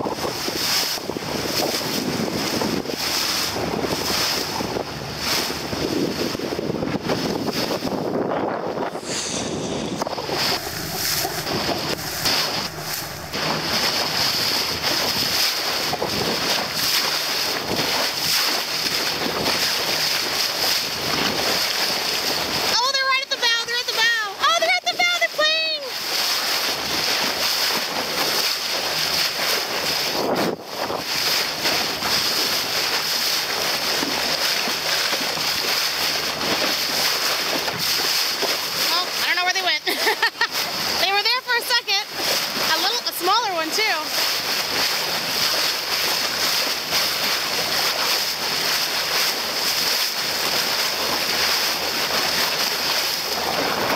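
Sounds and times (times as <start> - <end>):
wind buffeting microphone: 0.0 - 23.4, 24.0 - 53.9
water rushing along boat hull: 0.0 - 53.9.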